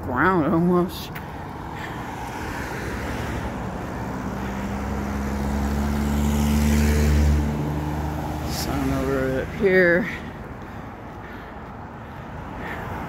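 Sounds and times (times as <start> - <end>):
vehicle passing on road: 0.0 - 13.0.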